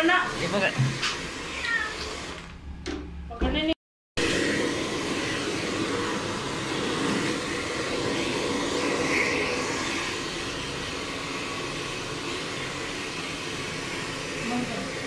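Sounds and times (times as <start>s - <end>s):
hair dryer blowing: 0.0s - 2.6s, 4.2s - 15.0s.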